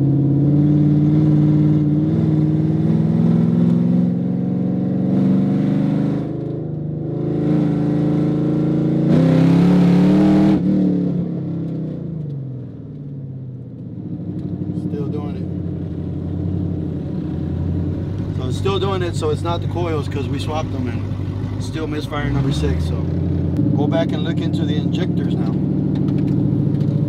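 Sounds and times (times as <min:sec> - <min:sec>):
car engine under full throttle: 0:00.0 - 0:27.0.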